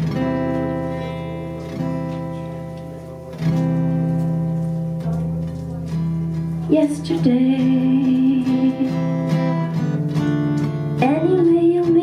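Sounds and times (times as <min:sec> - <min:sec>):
guitar strumming slow chords: 0:00.0 - 0:12.0.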